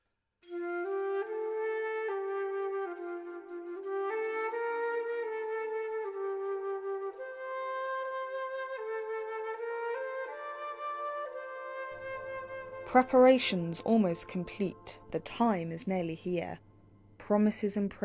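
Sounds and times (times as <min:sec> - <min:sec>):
slow flute melody: 0:00.4 - 0:15.2.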